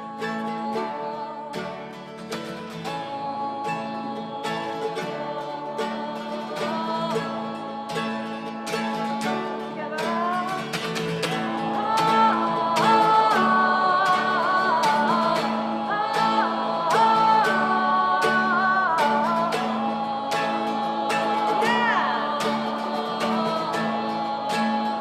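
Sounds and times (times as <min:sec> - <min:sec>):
strummed acoustic guitar: 0:00.0 - 0:25.0
wordless singing voices: 0:00.0 - 0:25.0.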